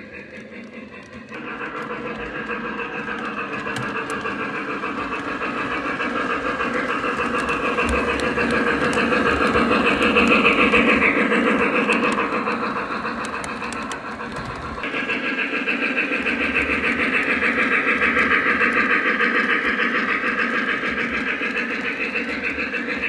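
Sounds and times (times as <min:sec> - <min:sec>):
model train clattering on track: 0:00.0 - 0:23.0.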